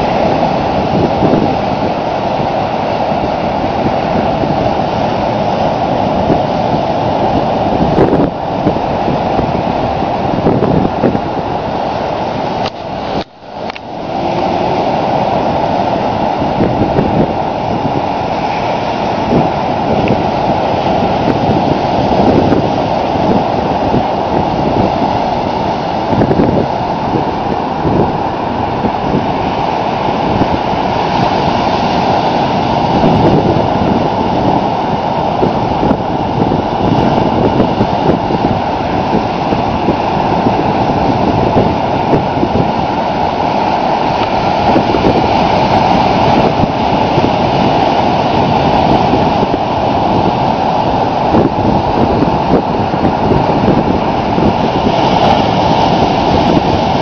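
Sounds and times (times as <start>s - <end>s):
ocean waves breaking on beach: 0.0s - 57.0s
wind noise on microphone: 0.0s - 57.0s.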